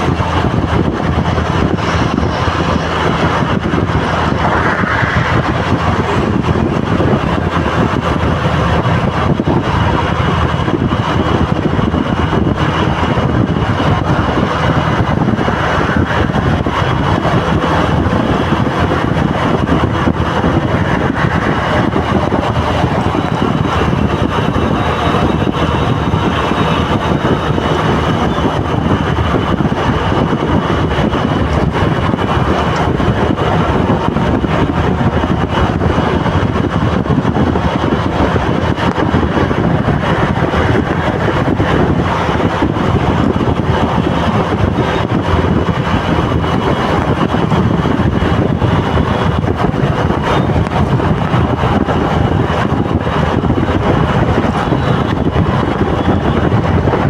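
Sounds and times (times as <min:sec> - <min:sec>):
road traffic: 0:00.0 - 0:57.0
wind on microphone: 0:00.0 - 0:57.0.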